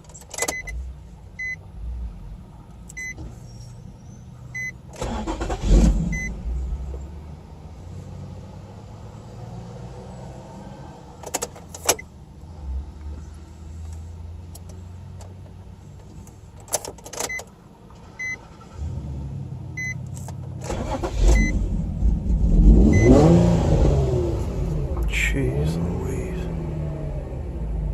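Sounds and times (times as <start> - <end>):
car engine cranking and revving: 0.0 - 27.9.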